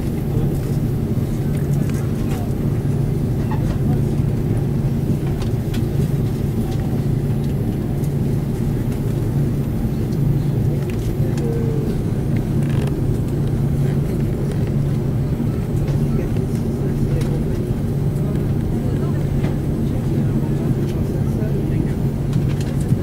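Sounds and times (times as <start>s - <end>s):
jet engine rumble and hum: 0.0s - 23.0s.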